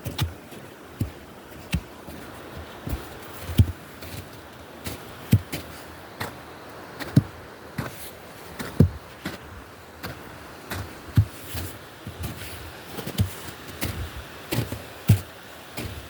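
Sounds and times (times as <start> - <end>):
footsteps with dull thuds: 0.0 - 6.4, 7.0 - 16.0
faint outdoor background noise: 0.0 - 16.0.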